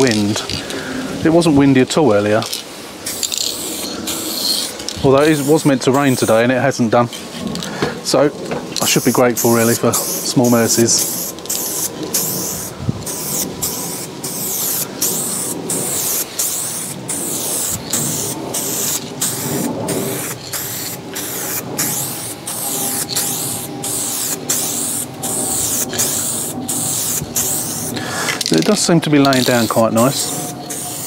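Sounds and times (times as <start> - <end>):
paint spraying hiss: 2.5 - 7.6, 8.8 - 31.0.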